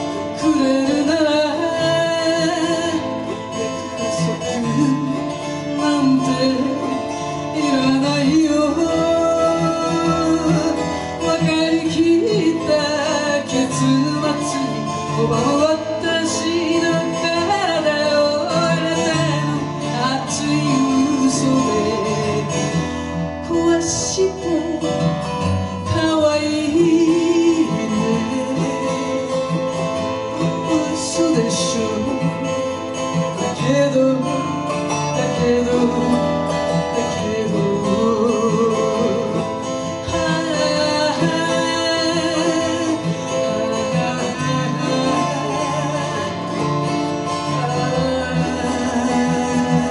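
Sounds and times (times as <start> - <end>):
acoustic guitar playing: 0.0 - 49.9
person singing: 0.0 - 49.9.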